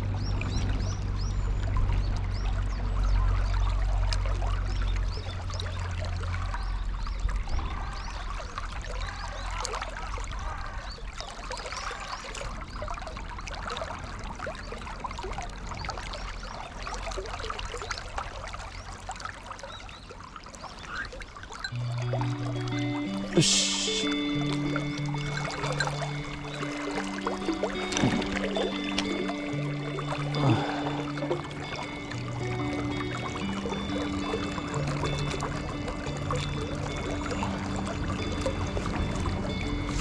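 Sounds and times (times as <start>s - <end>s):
river water babbling over stones: 0.0s - 40.0s.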